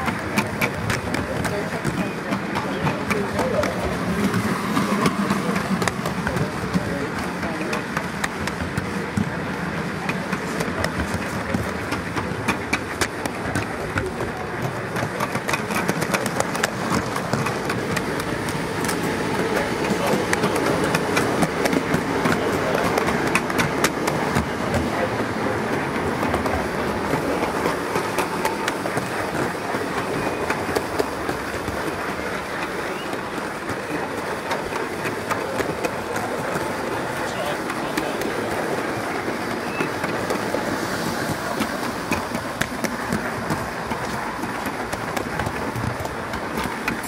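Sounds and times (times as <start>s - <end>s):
model train wheels rumbling on rail: 0.0s - 47.0s
wheels clicking over rail joints: 0.0s - 47.0s.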